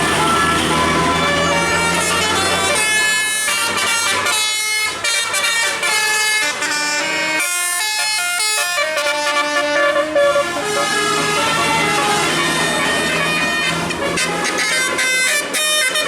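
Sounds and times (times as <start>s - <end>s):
bus melody horn playing tune: 0.0s - 16.0s.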